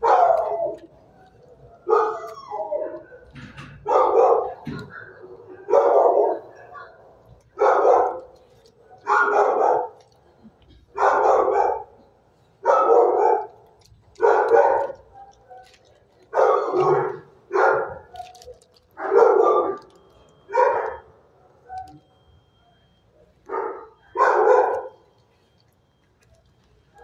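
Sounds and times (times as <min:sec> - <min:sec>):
dog barking: 0:00.0 - 0:10.2, 0:10.9 - 0:12.0, 0:12.6 - 0:22.1, 0:23.4 - 0:25.0.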